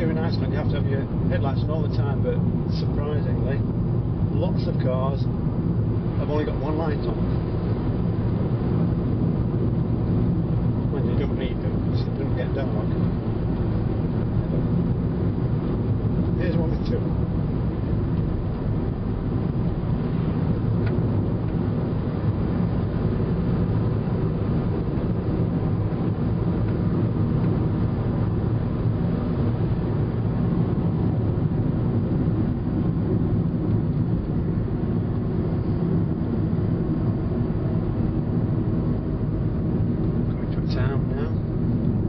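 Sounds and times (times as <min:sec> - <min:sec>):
tyres and engine rumble: 0:00.0 - 0:42.0.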